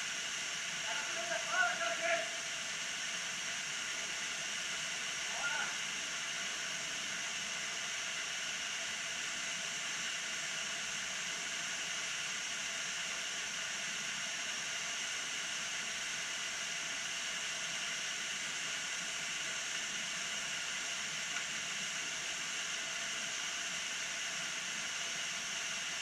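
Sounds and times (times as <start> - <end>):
waterfall rushing onto rocks: 0.0 - 26.0.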